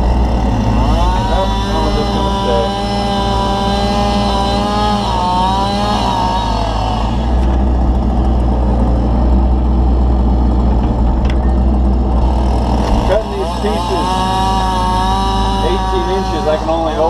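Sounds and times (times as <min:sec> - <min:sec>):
excavator diesel engine and hydraulics: 0:00.0 - 0:17.0
wavering whine: 0:00.0 - 0:17.0.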